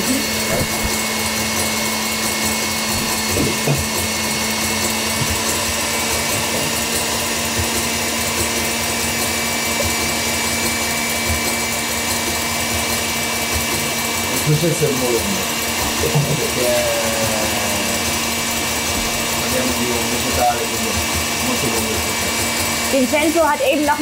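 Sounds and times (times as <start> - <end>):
stand mixer whirring: 0.0 - 24.0.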